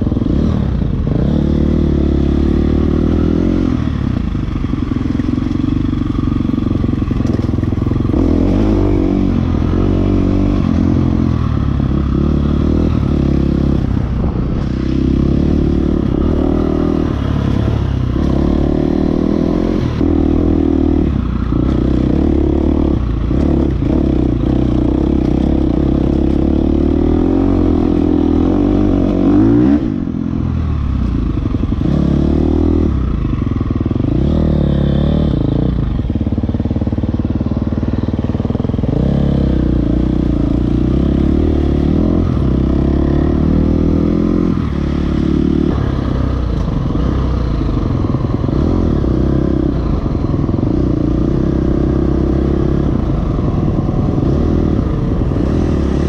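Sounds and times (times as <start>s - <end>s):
dirt bike engine revving: 0.0s - 33.4s, 34.0s - 36.3s, 38.8s - 56.0s
rattling on rough trail: 0.0s - 56.0s.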